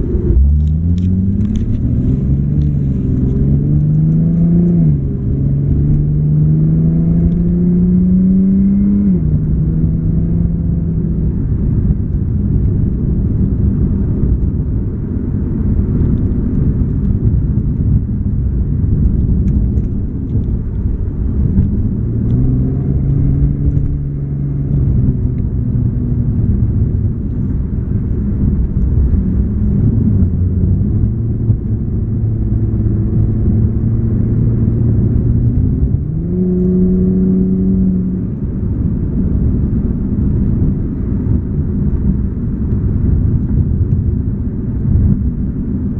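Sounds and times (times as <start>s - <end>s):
car engine accelerating: 0.0s - 45.9s
road noise: 0.0s - 45.9s.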